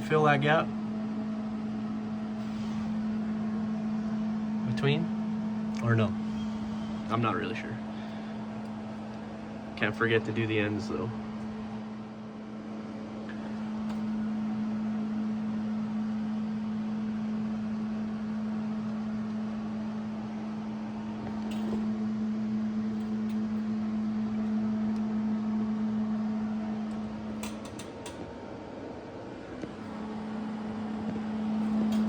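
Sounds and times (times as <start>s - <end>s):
electric welder humming and crackling: 0.0s - 32.0s.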